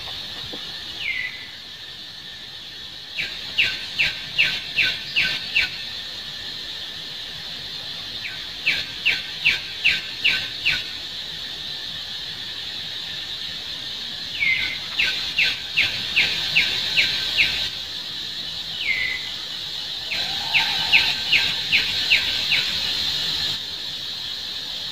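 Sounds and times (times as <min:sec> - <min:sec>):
steady high drone: 0:00.0 - 0:23.9.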